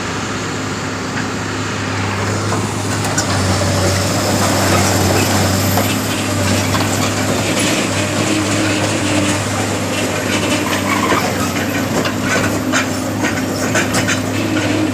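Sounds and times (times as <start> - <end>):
heavy machinery humming: 0.0 - 14.9.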